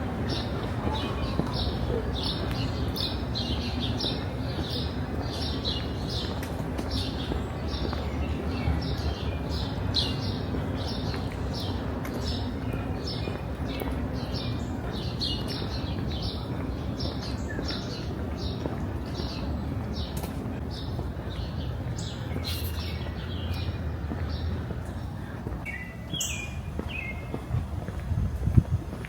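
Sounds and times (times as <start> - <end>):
small birds chirping: 0.1 - 27.6.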